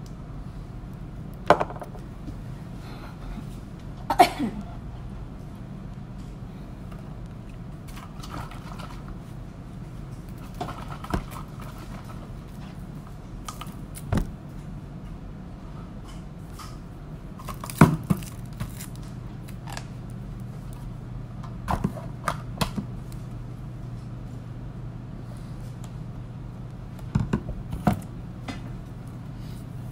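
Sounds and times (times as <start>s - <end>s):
low room hum: 0.0s - 29.9s.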